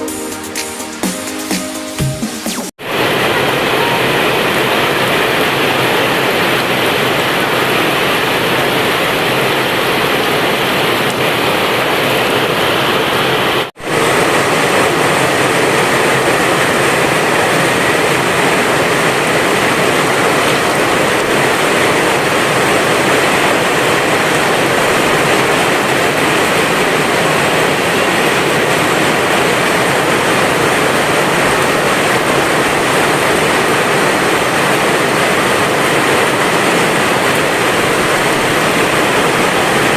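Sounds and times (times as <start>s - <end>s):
heavy rain pouring: 2.0s - 39.9s.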